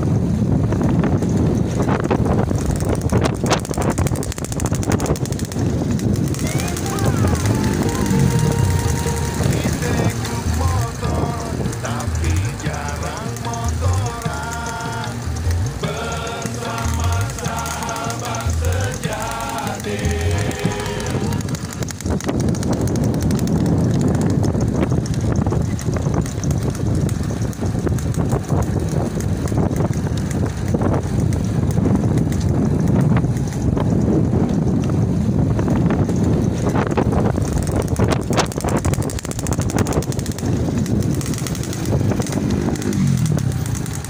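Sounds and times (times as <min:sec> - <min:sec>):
small motorcycle engine running: 0:00.0 - 0:44.0
wind buffeting microphone: 0:00.0 - 0:44.0.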